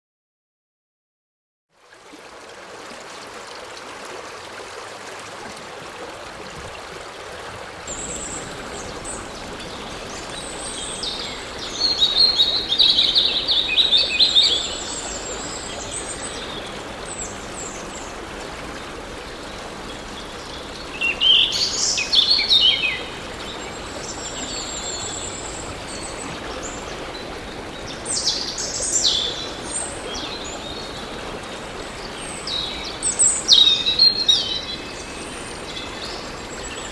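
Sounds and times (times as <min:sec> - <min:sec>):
stream flowing: 0:01.8 - 0:36.9.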